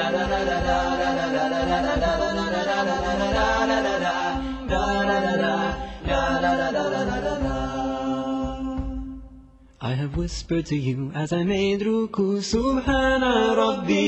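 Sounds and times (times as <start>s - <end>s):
voices singing in harmony: 0.0s - 10.2s, 11.2s - 14.0s
low steady beat: 0.0s - 11.7s.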